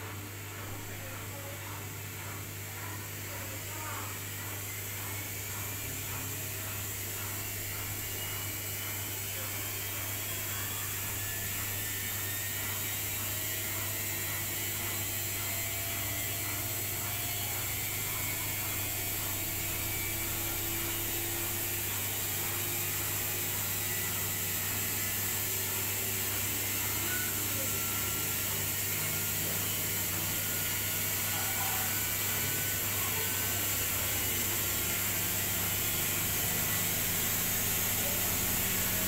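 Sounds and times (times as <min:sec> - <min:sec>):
washing machine spinning: 0:00.0 - 0:39.0.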